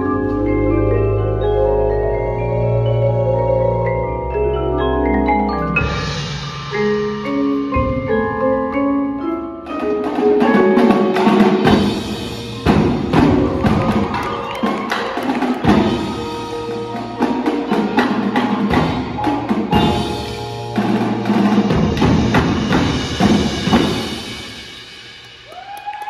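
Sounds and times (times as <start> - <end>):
marimbas and vibraphones: 0.0 - 25.4.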